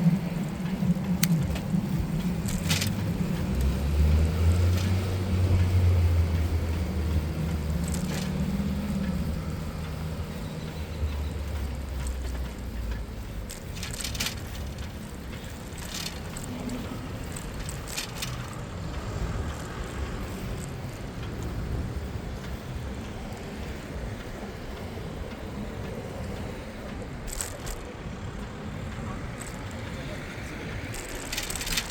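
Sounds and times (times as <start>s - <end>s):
bicycle tyres rumbling: 0.0s - 31.9s
passing vehicles: 0.0s - 31.9s
wind: 0.0s - 31.9s.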